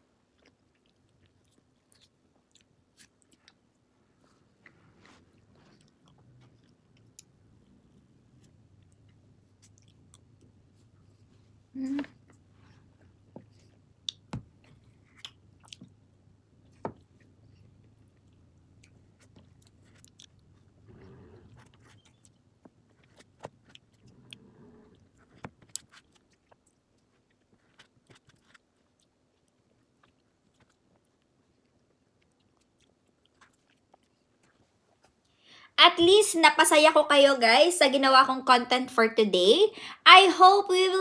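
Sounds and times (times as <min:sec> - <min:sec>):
chewing and lip-smacking: 0:00.1 - 0:11.0, 0:12.2 - 0:20.8, 0:21.4 - 0:35.4.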